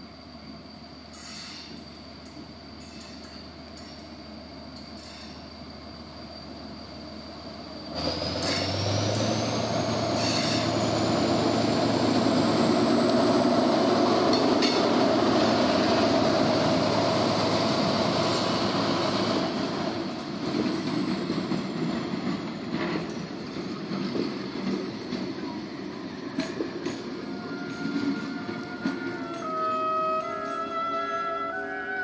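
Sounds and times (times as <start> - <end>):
diesel locomotive engine: 0.0 - 32.0
high engine whine: 0.0 - 32.0
train wheels rolling over rails: 1.1 - 31.6.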